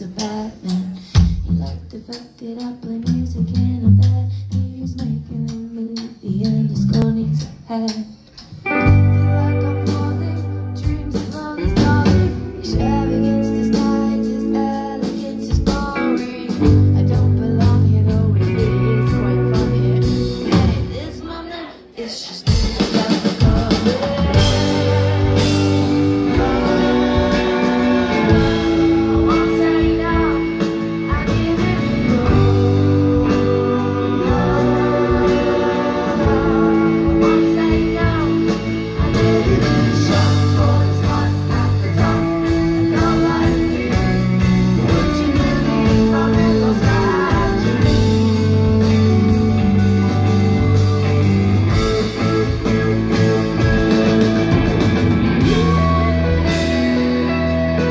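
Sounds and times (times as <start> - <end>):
rock band playing: 6.5 - 57.9
person singing: 8.7 - 57.9.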